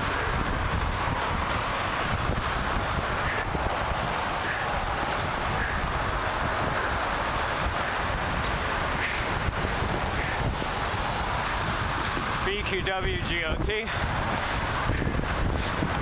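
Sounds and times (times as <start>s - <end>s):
car traffic passing: 0.0s - 16.0s
wind buffeting microphone: 0.0s - 16.0s.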